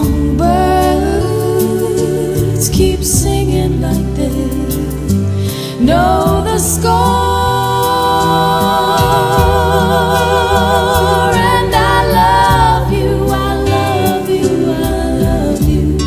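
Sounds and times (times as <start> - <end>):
woman singing a slow ballad: 0.0 - 16.0.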